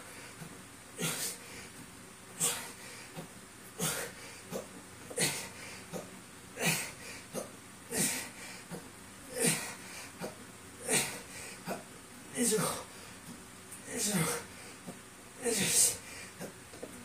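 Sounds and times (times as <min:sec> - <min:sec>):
man breathing hard: 0:00.0 - 0:01.8, 0:02.4 - 0:16.6.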